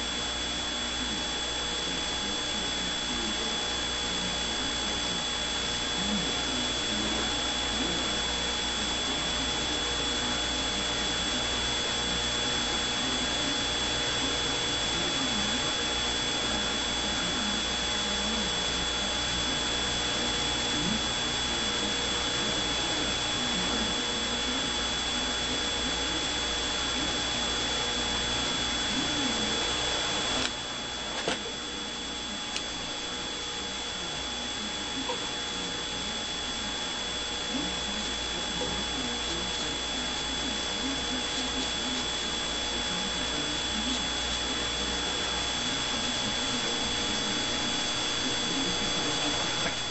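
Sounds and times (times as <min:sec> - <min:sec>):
machine whir with high whine: 0:00.0 - 0:49.9.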